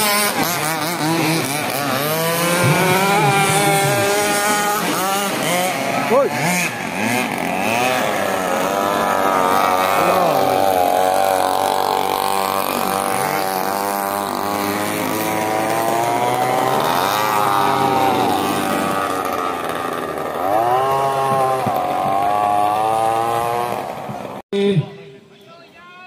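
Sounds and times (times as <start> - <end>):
racing boat motors whining: 0.0 - 24.4.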